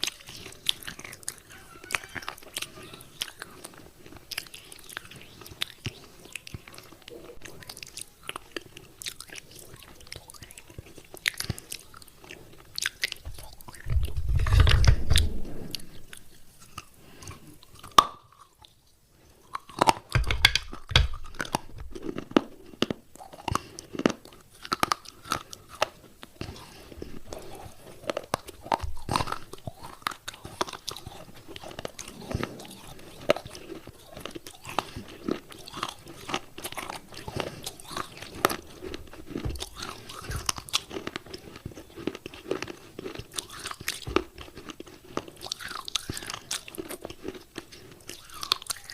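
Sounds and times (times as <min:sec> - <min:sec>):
crunching of chewed clay: 0:00.0 - 0:48.9.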